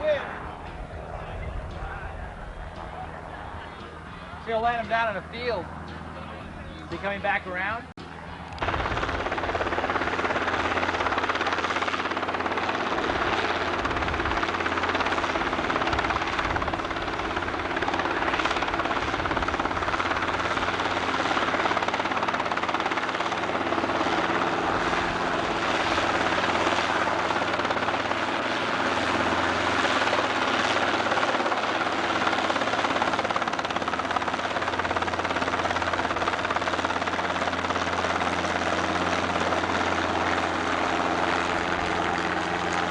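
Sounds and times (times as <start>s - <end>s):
light aircraft engine passing: 0.0s - 42.9s.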